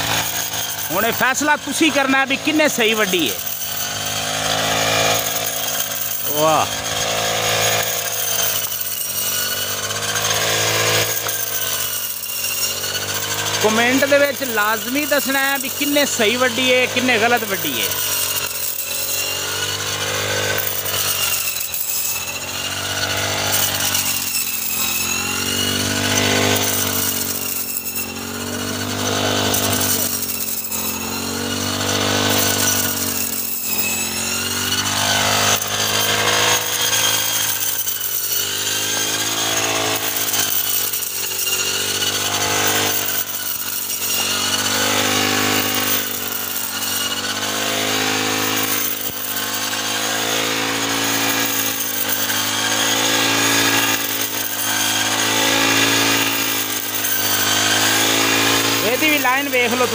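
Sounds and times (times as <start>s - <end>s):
brush cutter engine running: 0.0s - 59.9s.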